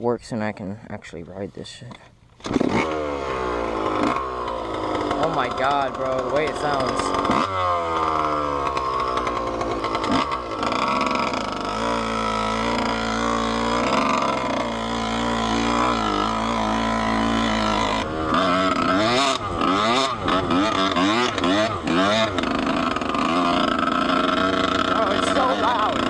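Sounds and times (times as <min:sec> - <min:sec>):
dirt bike engine revving: 0:02.4 - 0:26.0.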